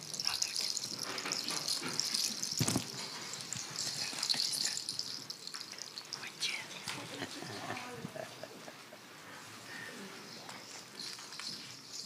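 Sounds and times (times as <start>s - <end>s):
rustling and shuffling: 0.0s - 12.0s
steady hiss: 0.0s - 12.0s.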